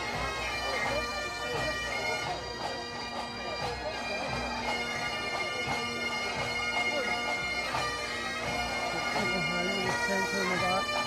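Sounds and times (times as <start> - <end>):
bagpipe band playing: 0.0 - 11.0.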